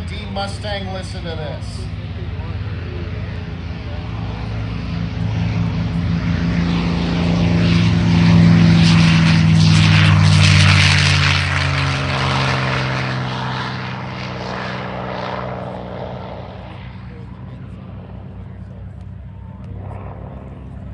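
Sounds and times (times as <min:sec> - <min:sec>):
propeller plane engine roaring: 0:00.0 - 0:20.9.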